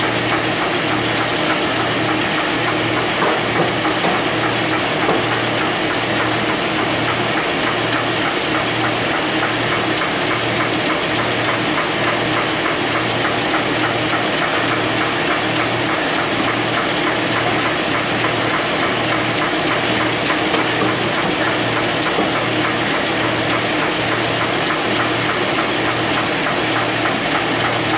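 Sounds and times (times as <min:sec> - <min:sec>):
machine clattering: 0:00.0 - 0:27.9.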